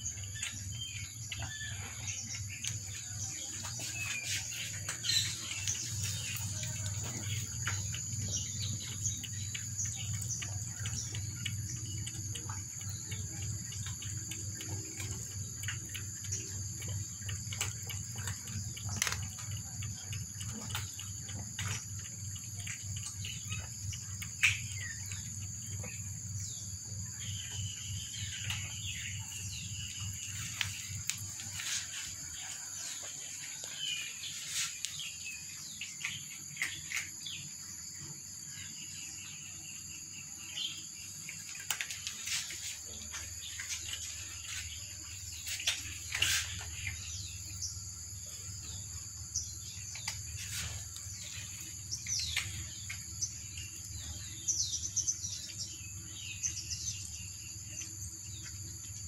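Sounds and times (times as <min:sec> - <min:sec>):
high insect drone: 0:00.0 - 0:59.0
small birds chirping: 0:00.0 - 0:59.0.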